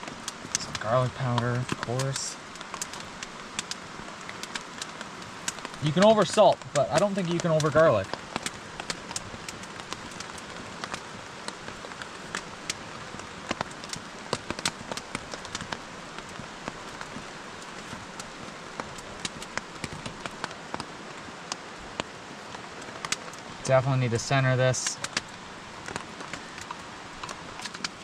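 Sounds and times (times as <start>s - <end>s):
rain hissing on a tarp: 0.0s - 28.0s
raindrop taps: 0.0s - 28.0s.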